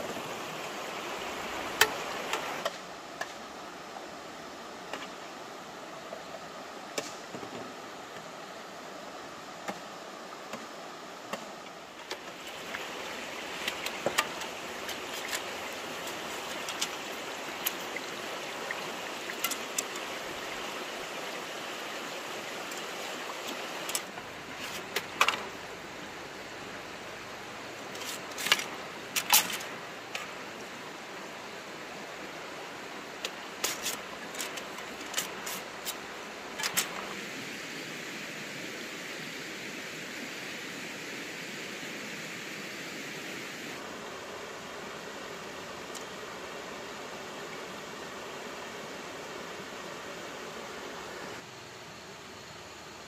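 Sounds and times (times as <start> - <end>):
stream water running: 0.0 - 53.0.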